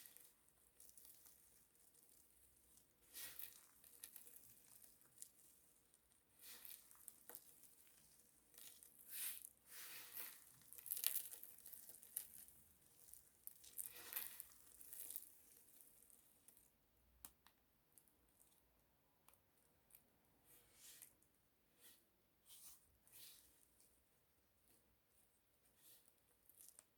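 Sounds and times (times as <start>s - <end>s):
soap crackling and scraping: 0.0s - 16.7s, 19.3s - 24.0s, 24.6s - 26.9s.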